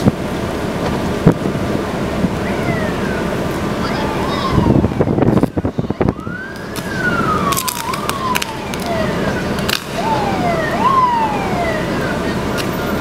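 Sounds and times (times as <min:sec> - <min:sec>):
background rushing noise: 0:00.0 - 0:13.0
emergency sirens wailing: 0:00.2 - 0:13.0.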